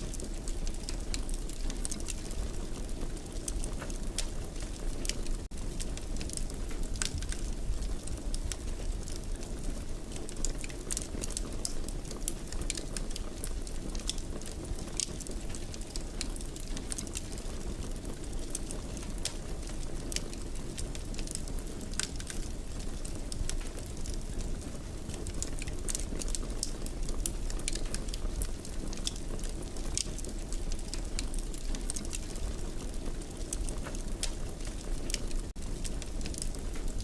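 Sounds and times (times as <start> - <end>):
fire crackling and popping: 0.0 - 37.0
low rush of flames: 0.1 - 37.0.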